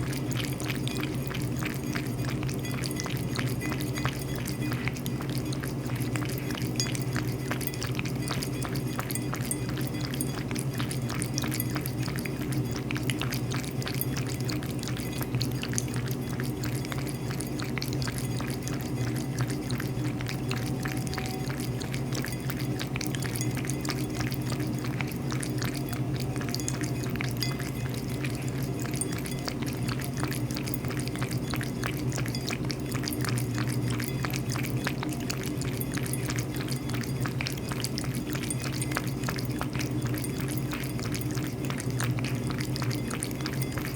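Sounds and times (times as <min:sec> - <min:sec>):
cat lapping water: 0:00.0 - 0:43.9
steady low hum: 0:00.0 - 0:43.9.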